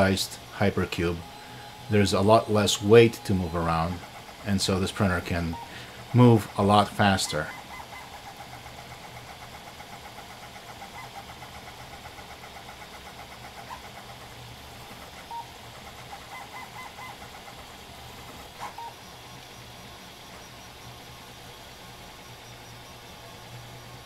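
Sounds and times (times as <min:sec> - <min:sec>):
stepper motors chirping and whirring: 0:00.0 - 0:24.0.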